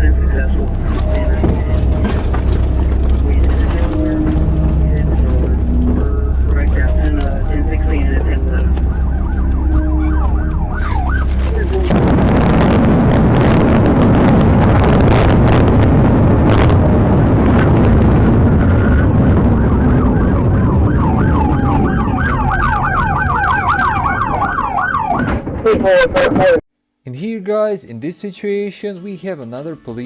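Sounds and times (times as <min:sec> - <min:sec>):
road and engine noise: 0:00.0 - 0:26.6
police siren yelping: 0:00.4 - 0:12.0, 0:13.4 - 0:26.6.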